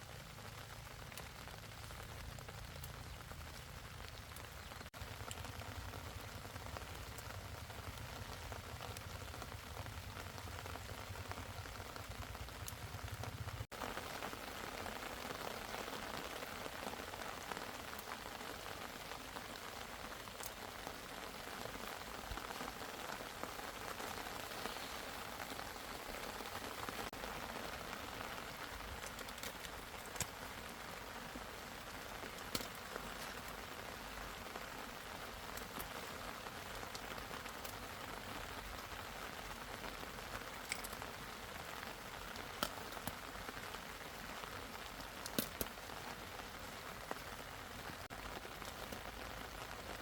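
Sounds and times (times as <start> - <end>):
steady rain: 0.0 - 50.0
rain drop ticks: 0.1 - 50.0.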